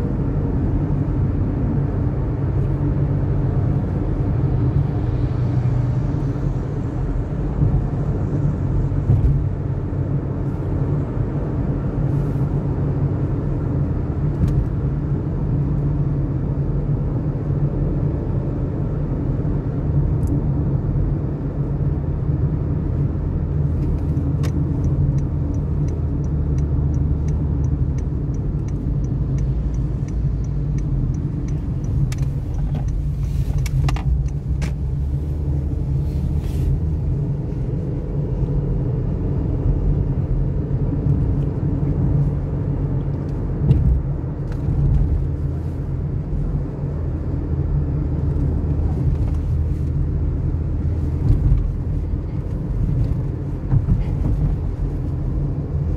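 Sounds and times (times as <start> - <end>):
car engine rumble: 0.0 - 55.9
tyre and road noise: 0.0 - 55.9.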